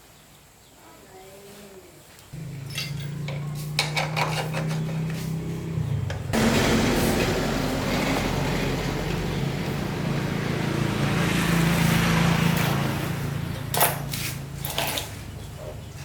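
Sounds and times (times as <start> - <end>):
small motorbike engine running: 2.4 - 15.5.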